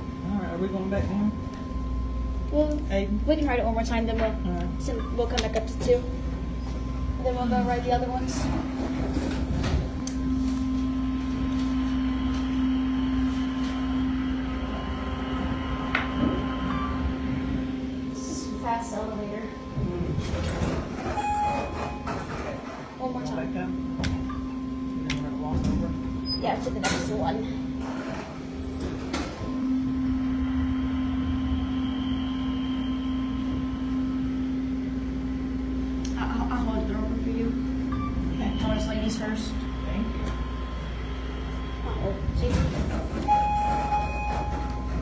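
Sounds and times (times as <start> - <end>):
elevator hum and rumble: 0.0 - 45.0.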